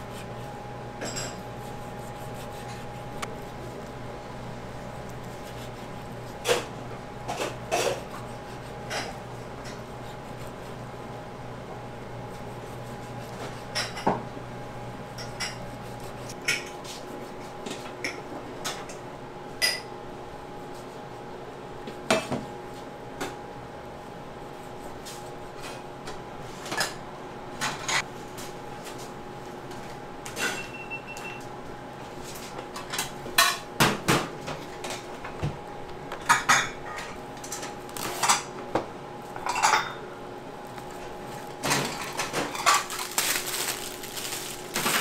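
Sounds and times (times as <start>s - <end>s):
faint kitchen equipment hum: 0.0s - 45.0s.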